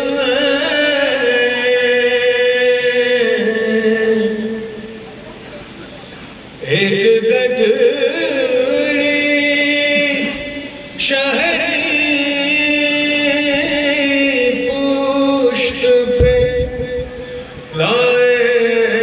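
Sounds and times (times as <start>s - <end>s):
man singing long melodic lines: 0.0s - 5.0s, 6.6s - 19.0s.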